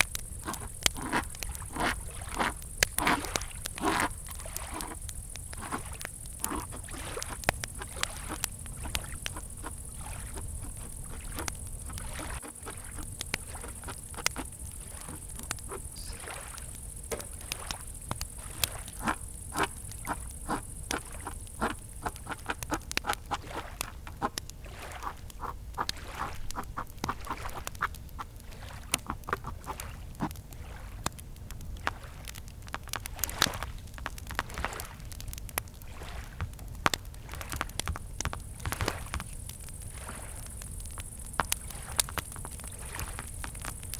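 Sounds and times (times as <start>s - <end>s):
campfire crackling and popping: 0.0s - 43.9s
crickets chirping: 0.0s - 43.9s
lake water lapping: 0.0s - 43.9s.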